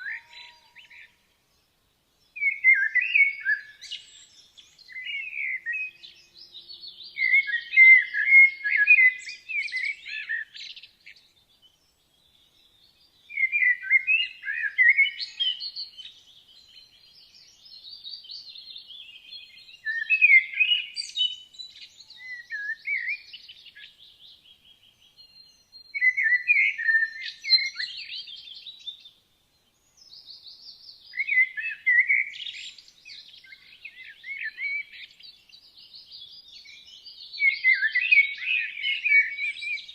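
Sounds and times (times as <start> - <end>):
songbirds warbling: 0.0 - 39.9.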